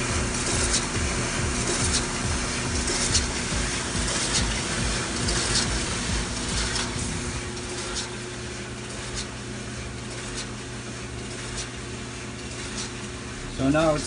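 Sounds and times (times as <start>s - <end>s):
clothes dryer motor hum: 0.0s - 14.0s
dryer drum ticking: 0.0s - 14.0s.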